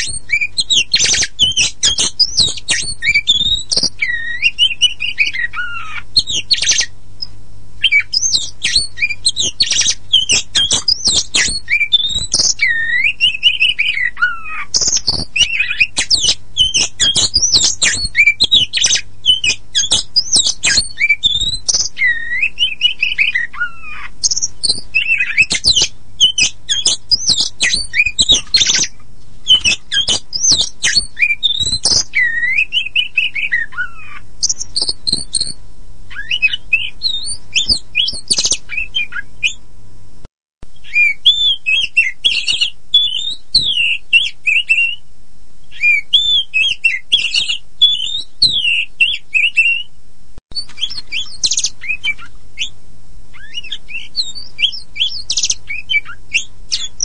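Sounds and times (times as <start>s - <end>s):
magpie-robin singing: 0.0s - 39.6s, 40.7s - 45.0s, 45.6s - 49.9s, 50.5s - 57.0s.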